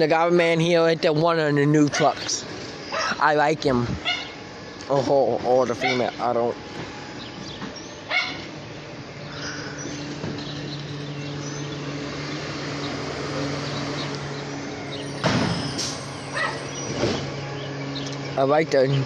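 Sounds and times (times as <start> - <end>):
garbage truck engine humming: 0.0 - 19.0.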